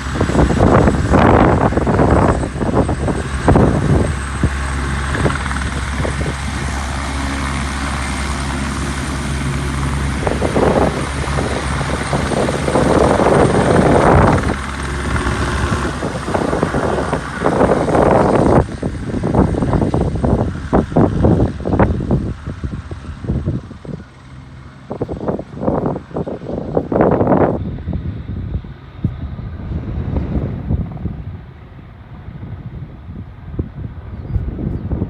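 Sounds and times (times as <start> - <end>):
helicopter rotor and engine hum: 0.0 - 35.0
wind gusts on microphone: 0.0 - 35.0.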